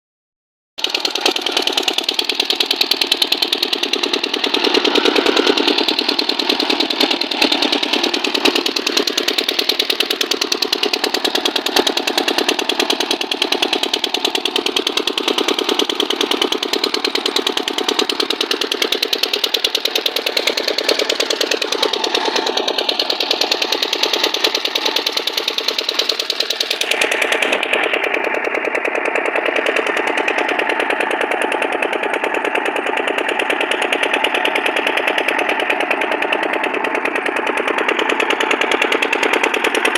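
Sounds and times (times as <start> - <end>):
gas engine running: 0.8 - 39.9.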